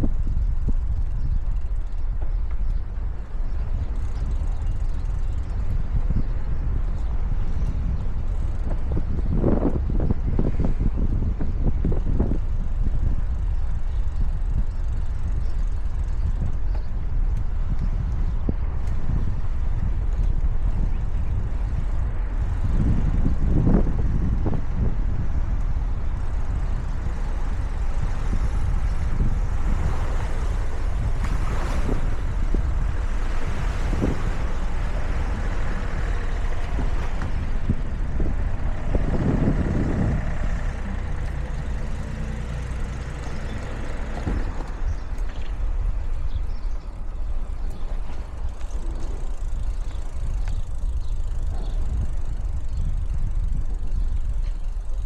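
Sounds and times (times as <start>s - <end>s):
bicycle road rumble: 0.0s - 55.0s
wind on microphone: 0.0s - 55.0s.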